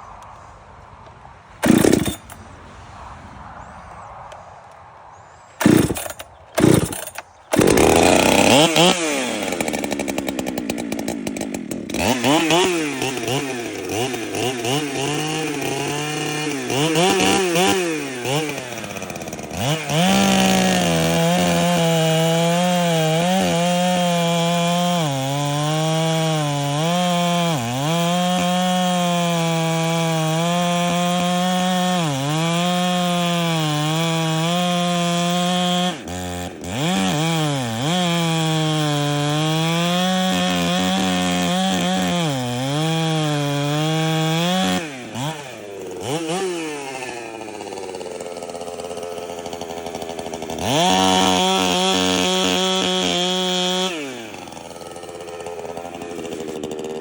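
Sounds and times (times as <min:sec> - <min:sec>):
chainsaw cutting wood: 0:01.6 - 0:02.5, 0:05.6 - 0:57.0.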